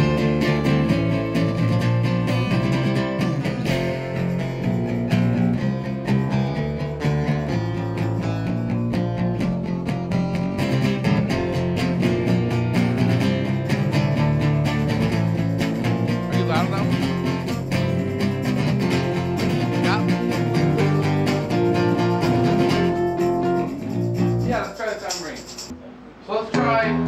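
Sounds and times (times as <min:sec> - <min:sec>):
acoustic guitars strumming: 0:00.0 - 0:27.0.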